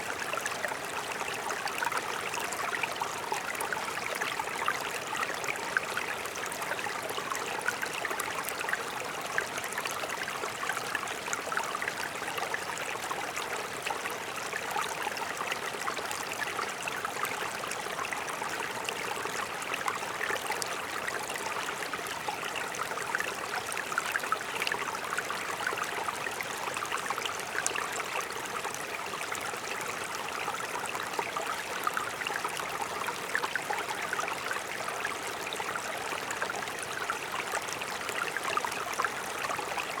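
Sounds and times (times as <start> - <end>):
stream flowing over rocks: 0.0 - 40.0.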